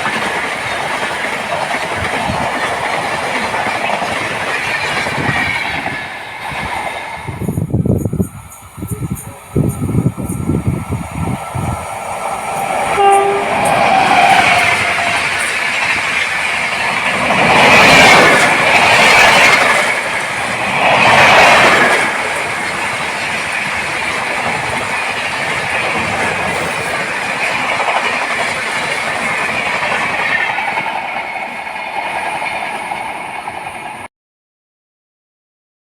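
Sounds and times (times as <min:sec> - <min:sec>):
train wheels clattering: 0:00.0 - 0:34.0
train coaches rushing by: 0:00.0 - 0:34.1.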